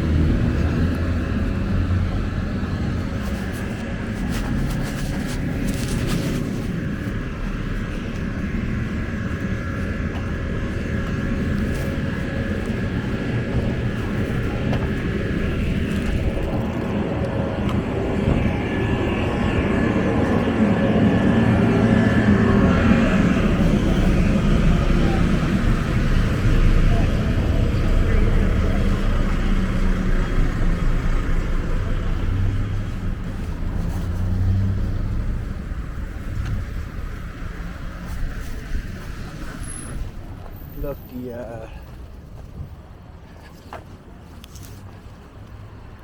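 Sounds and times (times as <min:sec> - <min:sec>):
low outdoor rumble: 0:00.0 - 0:46.0
street noise: 0:00.0 - 0:46.0
vehicle engine humming: 0:00.0 - 0:46.0.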